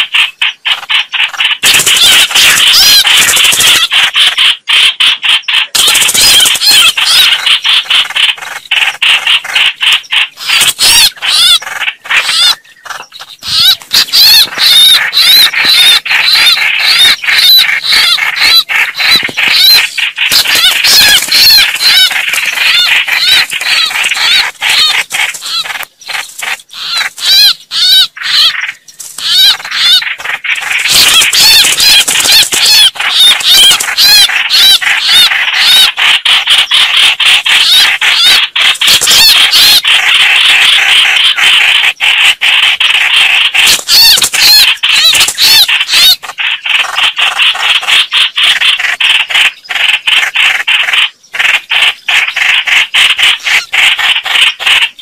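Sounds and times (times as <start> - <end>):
birds calling harshly: 0.0 - 55.0.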